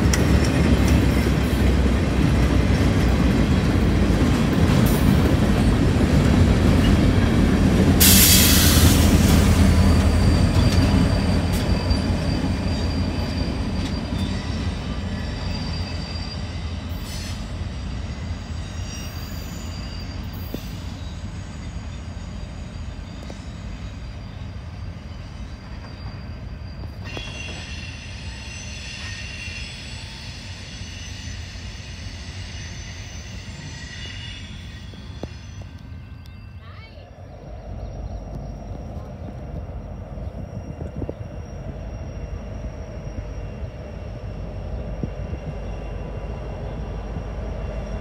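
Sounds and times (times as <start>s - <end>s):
freight train rumbling: 0.0s - 48.0s
steel wheels squealing: 0.0s - 48.0s.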